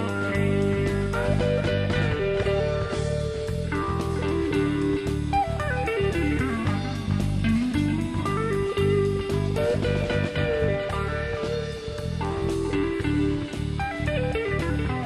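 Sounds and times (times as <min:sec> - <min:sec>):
country band playing: 0:00.0 - 0:15.0
electric lead guitar: 0:00.0 - 0:15.0.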